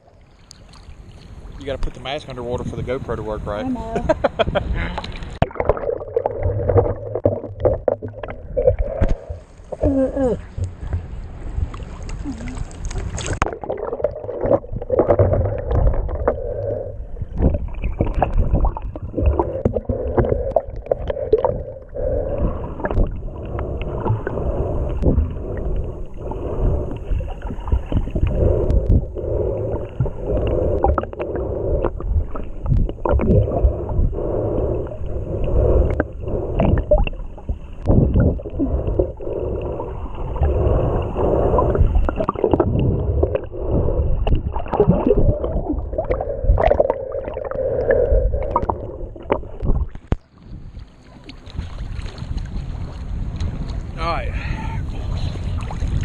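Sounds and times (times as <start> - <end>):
underwater rumble and sloshing: 0.0 - 56.0.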